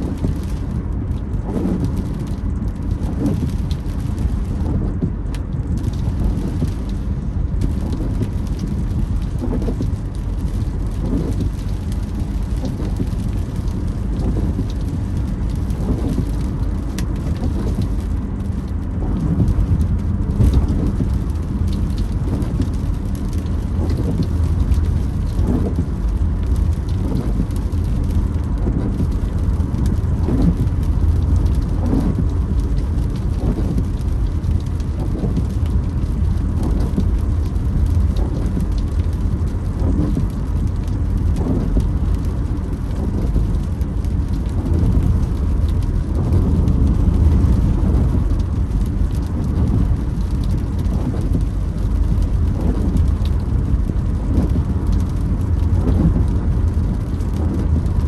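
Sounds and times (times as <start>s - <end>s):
rain drumming on a car: 0.0s - 58.0s
tyres and engine rumble: 0.0s - 58.0s
windscreen wipers creaking: 0.0s - 58.0s.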